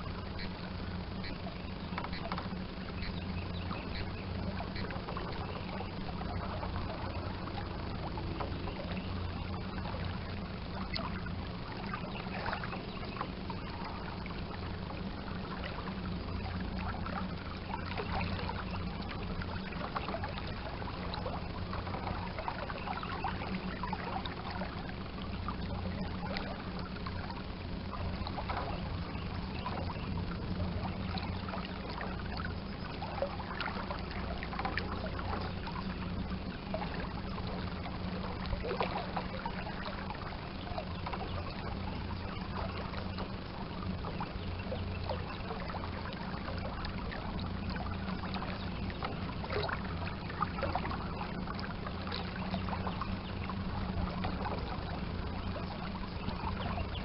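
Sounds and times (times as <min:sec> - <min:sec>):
steady low hum: 0:00.0 - 0:57.0
water lapping against boat hull: 0:00.0 - 0:57.0.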